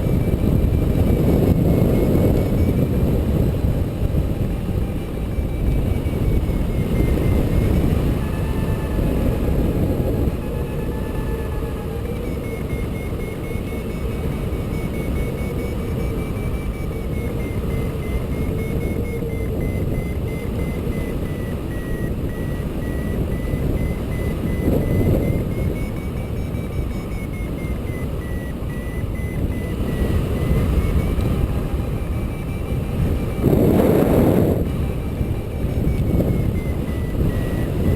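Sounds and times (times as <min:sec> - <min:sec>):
variometer beeping: 0:00.0 - 0:37.9
wind rushing over microphone: 0:00.0 - 0:37.9
wavering thin tone: 0:04.3 - 0:37.9.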